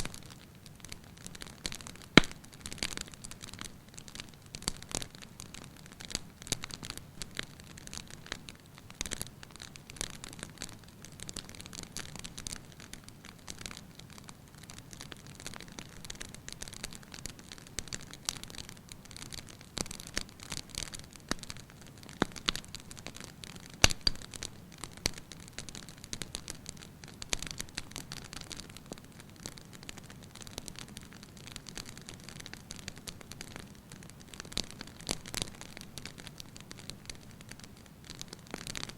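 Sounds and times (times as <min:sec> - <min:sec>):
wood fire crackling in fireplace: 0:00.0 - 0:38.9.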